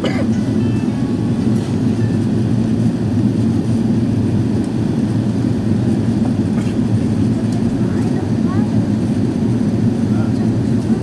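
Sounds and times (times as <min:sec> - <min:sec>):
aircraft cabin engine roar: 0:00.0 - 0:11.0.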